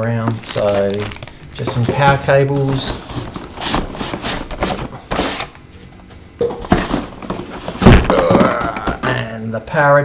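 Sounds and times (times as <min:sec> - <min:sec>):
cardboard and plastic rustling: 0:00.0 - 0:09.5.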